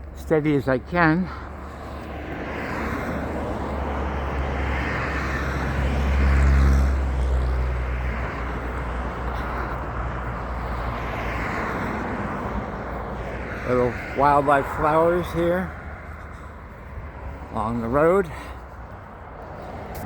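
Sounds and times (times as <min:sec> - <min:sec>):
vehicle passing by: 0:00.3 - 0:20.0.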